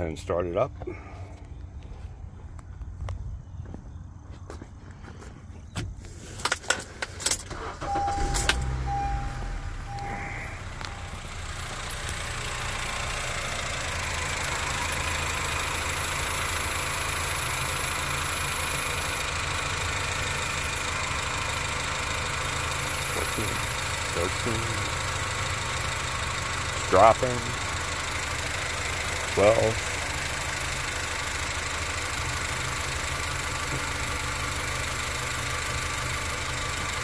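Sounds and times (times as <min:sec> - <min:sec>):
car engine starting and idling: 0:05.9 - 0:37.0.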